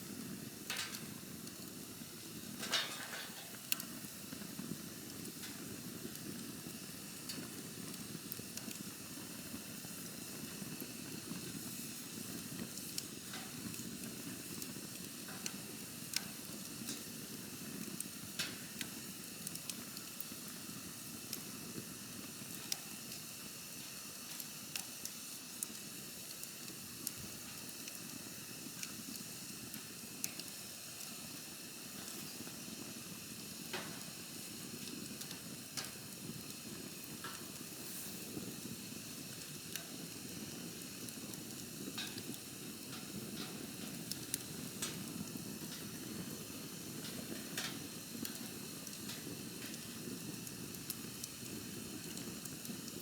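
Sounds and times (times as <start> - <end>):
campfire flame rushing: 0.0 - 53.0
fire crackling and popping: 0.0 - 53.0.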